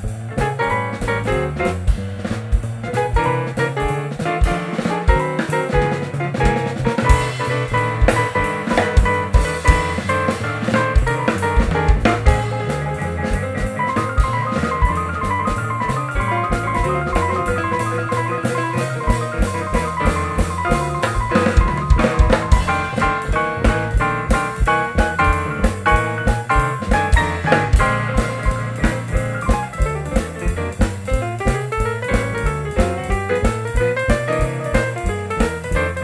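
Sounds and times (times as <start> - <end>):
drum kit beat: 0.0 - 36.0
grand piano: 0.0 - 36.0
walking double bass: 0.0 - 36.0.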